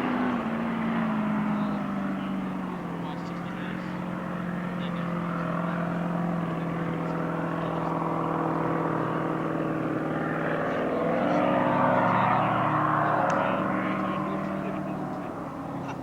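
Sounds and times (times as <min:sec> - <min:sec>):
powerboat engines droning: 0:00.0 - 0:16.0.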